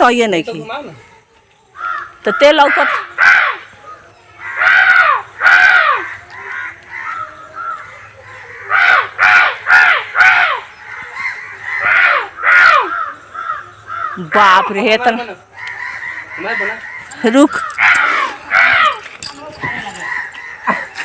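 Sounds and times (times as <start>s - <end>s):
crow cawing: 1.8s - 3.6s, 4.4s - 14.8s, 15.5s - 21.0s.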